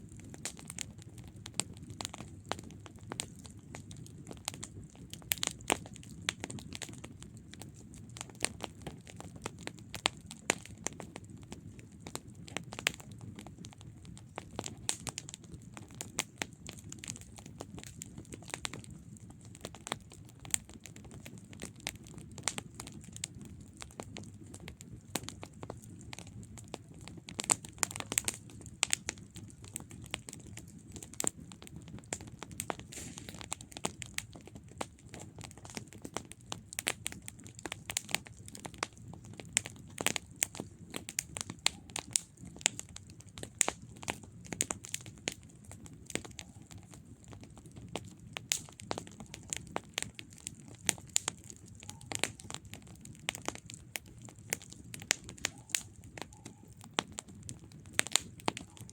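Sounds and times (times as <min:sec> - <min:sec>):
burning wood popping and crackling: 0:00.0 - 0:58.9
low rumble of flames: 0:00.0 - 0:58.9.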